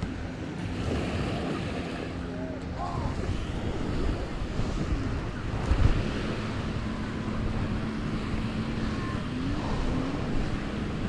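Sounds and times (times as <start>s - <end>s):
faint steady drone: 0.0s - 11.0s
surf washing: 0.0s - 11.0s
wind on microphone: 0.0s - 11.0s.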